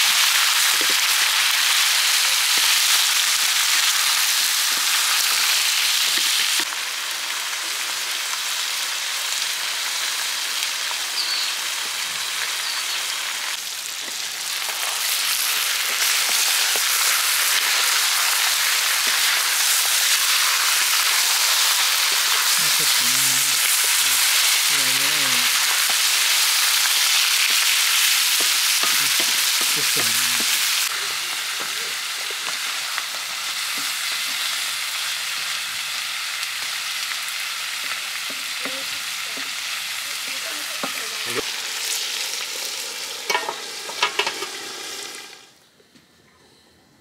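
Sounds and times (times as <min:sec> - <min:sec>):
curry sizzling in a pan: 0:00.0 - 0:45.5.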